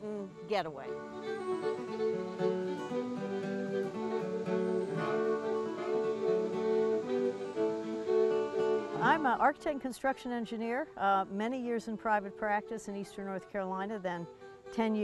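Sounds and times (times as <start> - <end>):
acoustic guitar picked melody: 0.0 - 15.0
bowed fiddle: 0.0 - 15.0.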